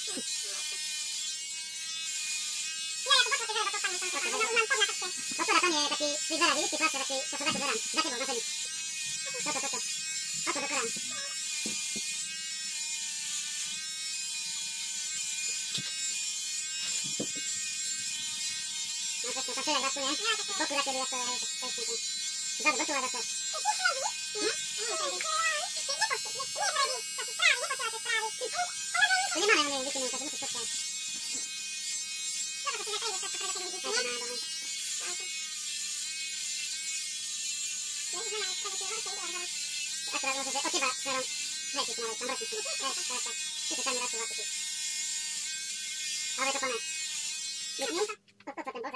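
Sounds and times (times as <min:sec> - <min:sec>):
electric shaver buzzing: 0:00.0 - 0:48.9.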